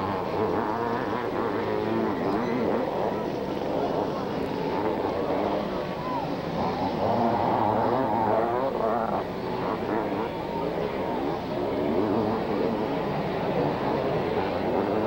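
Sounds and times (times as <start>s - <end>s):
motocross bikes racing past: 0.0s - 15.0s.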